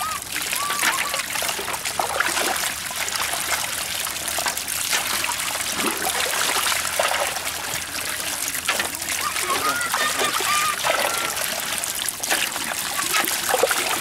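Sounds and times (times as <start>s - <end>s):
muddy water trickling: 0.0s - 14.0s
small fish splashing: 0.0s - 14.0s.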